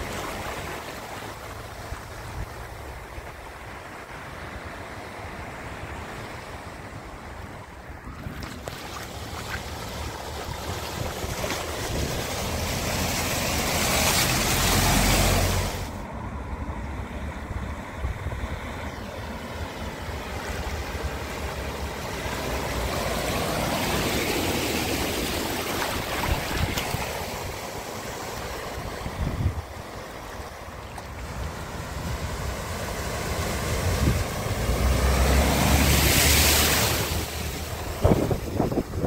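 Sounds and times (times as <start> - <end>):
cars splashing through floodwater: 0.0 - 39.0.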